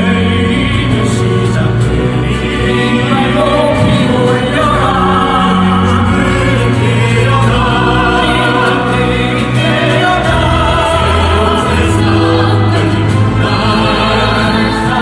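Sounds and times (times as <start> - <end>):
group of voices singing: 0.0 - 15.0
loud backing track: 0.8 - 15.0.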